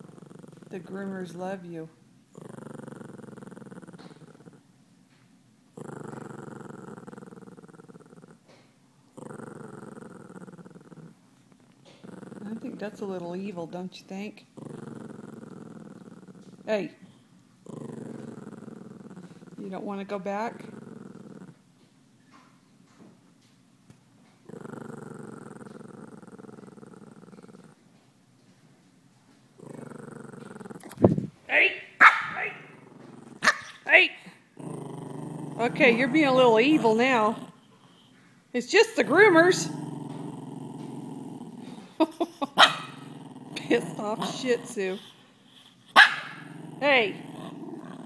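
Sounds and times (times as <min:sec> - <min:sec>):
dog growling: 0:00.0 - 0:01.7, 0:02.3 - 0:04.7, 0:05.7 - 0:21.8, 0:24.4 - 0:27.9, 0:29.6 - 0:31.3, 0:32.4 - 0:37.8, 0:38.6 - 0:48.0.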